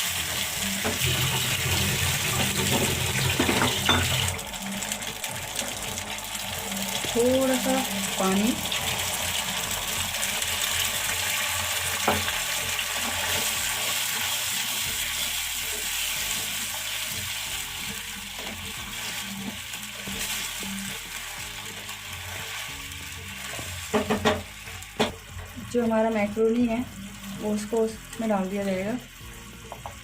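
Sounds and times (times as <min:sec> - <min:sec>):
sauce sizzling and bubbling in pan: 0:00.0 - 0:30.0.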